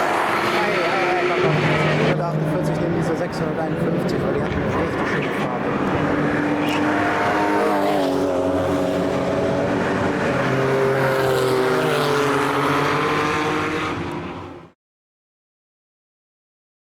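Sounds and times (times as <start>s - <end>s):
race car engines passing by: 0.0s - 14.8s.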